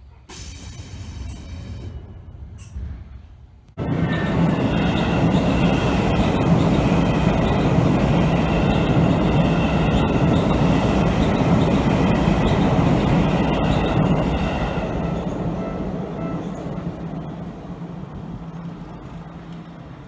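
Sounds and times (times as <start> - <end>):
train wheels rumbling on rails: 0.3 - 20.0.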